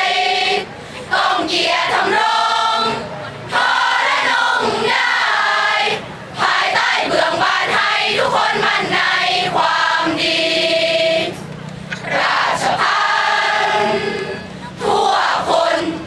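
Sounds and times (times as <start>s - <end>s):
crowd singing in unison: 0.0s - 16.0s.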